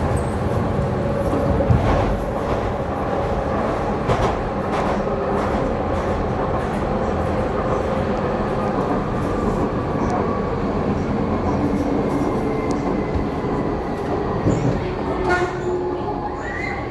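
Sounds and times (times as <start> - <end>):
train rumbling along track: 0.0 - 16.9.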